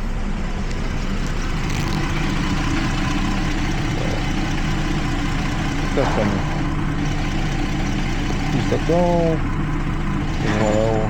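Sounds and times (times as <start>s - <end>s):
engine idling with misfire: 0.0s - 11.0s.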